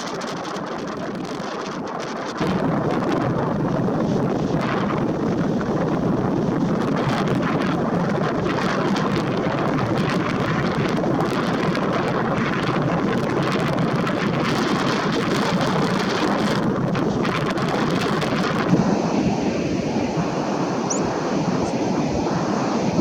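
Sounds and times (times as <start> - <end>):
storm wind buffeting microphone: 0.0 - 23.0.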